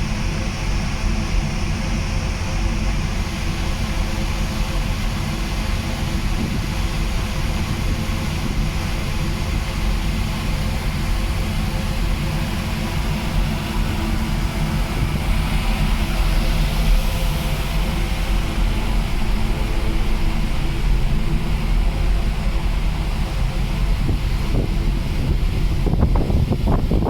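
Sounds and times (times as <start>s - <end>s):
ship engine hum: 0.0s - 27.0s
wind buffeting microphone: 4.9s - 27.0s.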